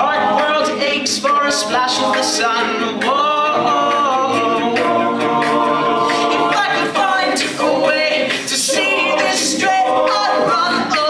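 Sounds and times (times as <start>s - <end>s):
vocal group singing in harmony: 0.0s - 11.0s.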